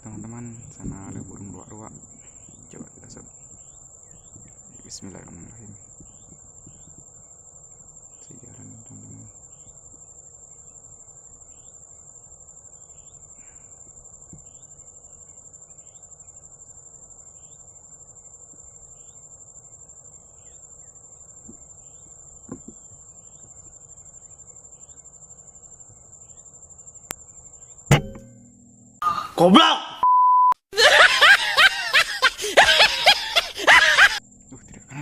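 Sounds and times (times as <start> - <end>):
crickets trilling: 0.0 - 29.6, 30.8 - 35.0.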